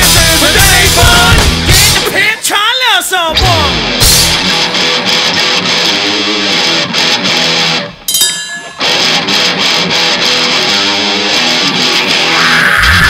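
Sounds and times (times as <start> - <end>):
loud electric guitar: 0.0 - 2.5, 3.3 - 13.0
rock band playing: 0.0 - 2.5, 3.3 - 13.0.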